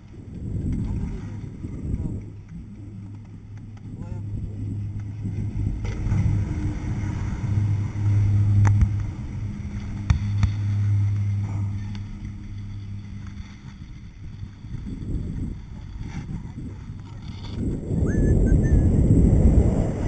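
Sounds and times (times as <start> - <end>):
chairlift machinery hum: 0.0 - 20.0.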